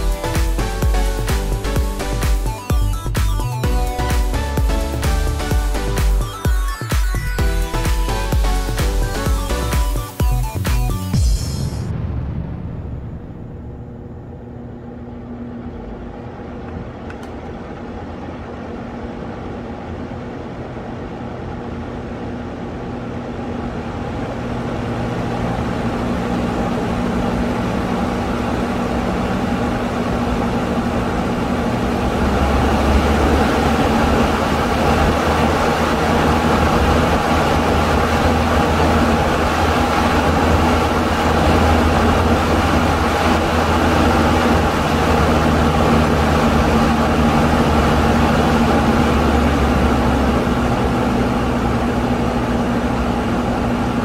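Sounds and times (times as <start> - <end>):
electric fan humming: 0.0 - 54.0.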